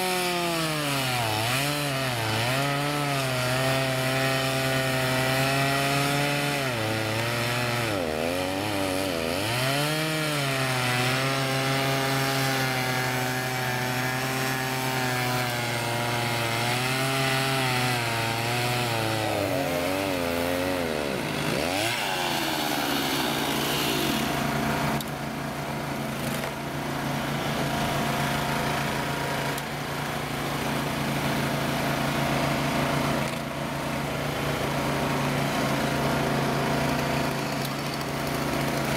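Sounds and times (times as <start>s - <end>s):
chainsaws cutting logs: 0.0s - 38.9s
small engine running steadily: 0.0s - 38.9s.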